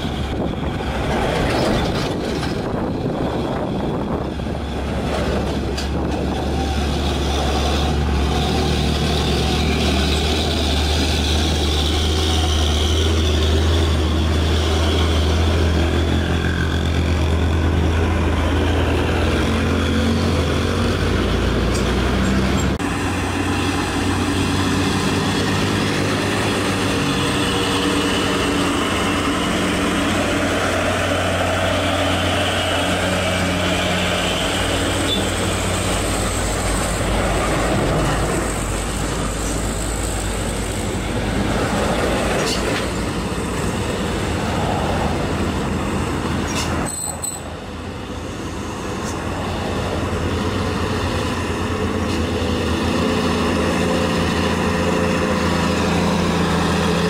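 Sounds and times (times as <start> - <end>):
diesel truck engines droning: 0.0 - 57.0
road noise: 0.0 - 57.0.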